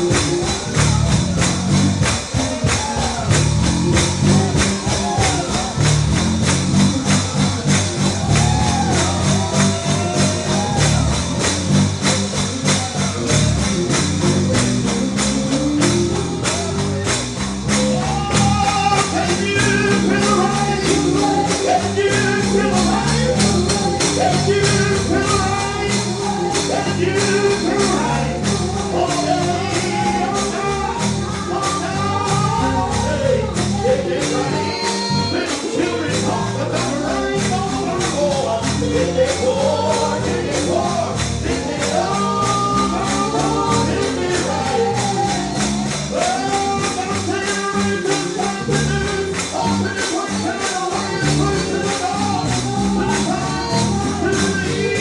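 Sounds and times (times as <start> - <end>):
gospel singing voices: 0.0 - 55.0
tambourine shaken and struck: 0.0 - 55.0.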